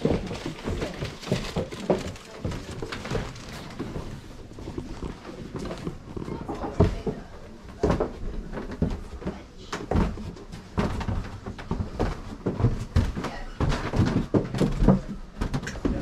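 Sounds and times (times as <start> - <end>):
footsteps on wooden floorboards: 0.0 - 16.0.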